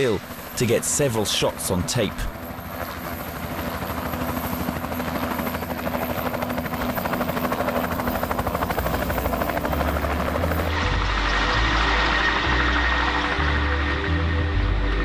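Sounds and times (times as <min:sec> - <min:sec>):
helicopter rotor chopping: 0:00.0 - 0:13.8.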